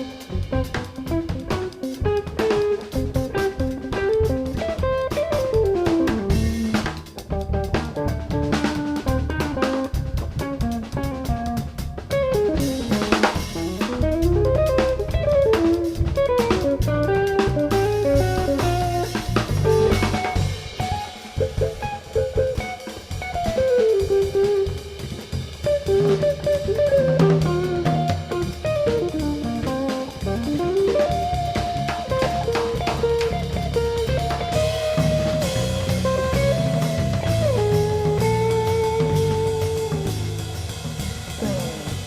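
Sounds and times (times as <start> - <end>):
guitar melody with slide: 0.0 - 42.0
steady drums: 0.0 - 42.0.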